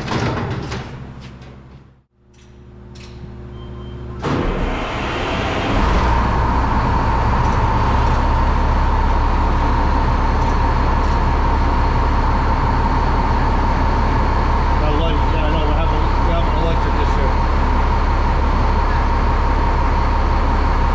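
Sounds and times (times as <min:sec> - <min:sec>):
heavy truck engine whining: 0:03.7 - 0:20.9.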